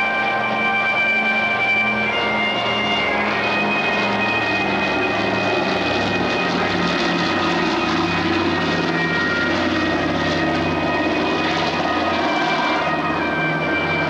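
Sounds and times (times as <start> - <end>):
propeller plane engines droning: 0.0 - 14.0.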